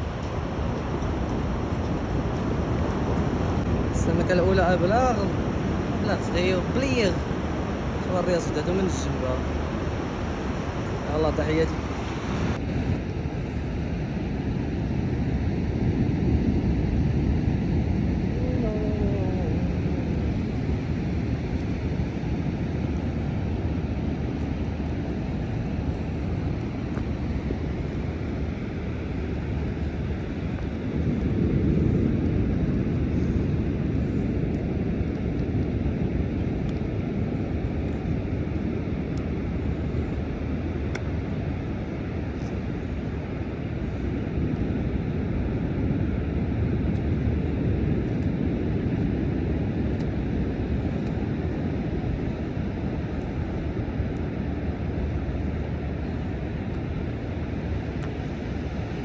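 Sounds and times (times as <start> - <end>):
rough surf on beach: 0.0 - 59.0
wind rumble on microphone: 0.0 - 59.0.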